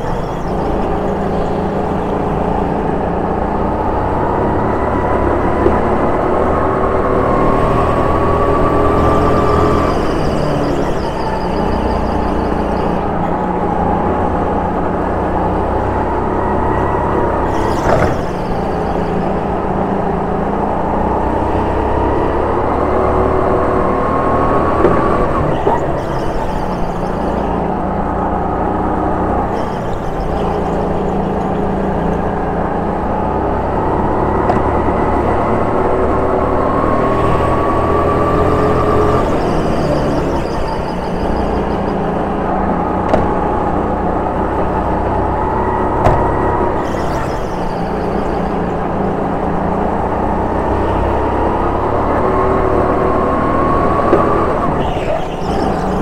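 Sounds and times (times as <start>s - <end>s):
go-kart motor running: 0.0s - 56.0s.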